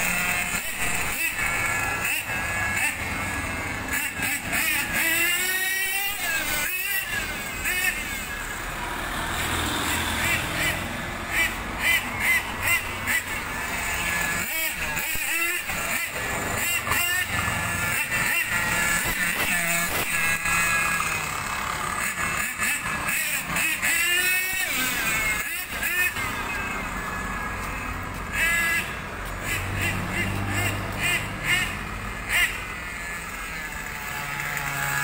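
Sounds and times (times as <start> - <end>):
passing road traffic: 0.0 - 35.0
toy car motor whining: 0.0 - 35.0.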